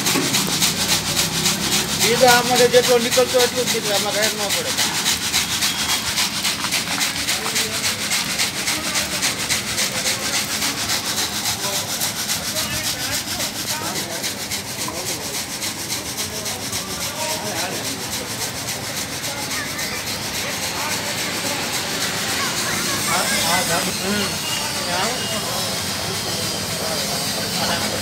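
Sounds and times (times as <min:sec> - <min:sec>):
grading machine sieve rattling: 0:00.0 - 0:28.0.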